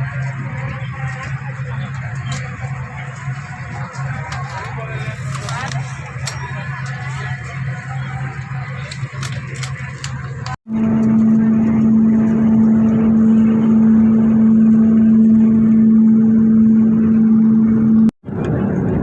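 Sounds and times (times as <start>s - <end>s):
airliner cabin engine drone: 0.0s - 19.0s.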